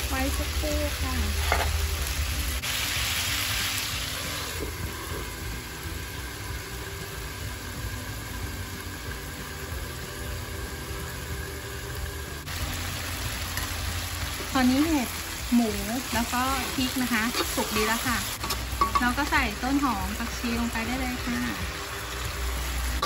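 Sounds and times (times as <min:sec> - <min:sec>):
muffled sizzle: 0:00.0 - 0:23.0.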